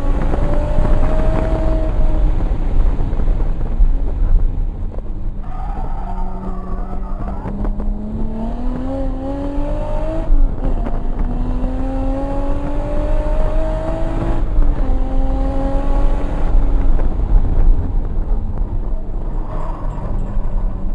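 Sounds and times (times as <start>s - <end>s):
car engine revving at full throttle: 0.0s - 5.4s, 6.1s - 20.9s.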